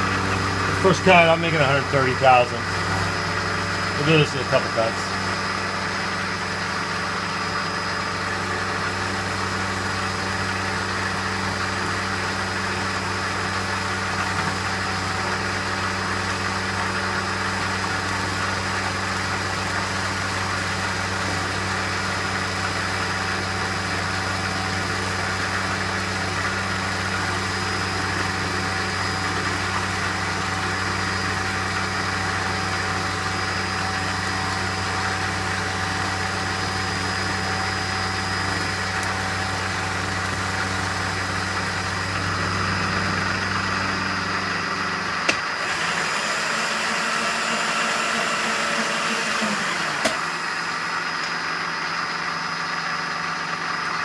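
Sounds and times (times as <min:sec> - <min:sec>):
milling machine cutting: 0:00.0 - 0:22.6, 0:24.8 - 0:51.3.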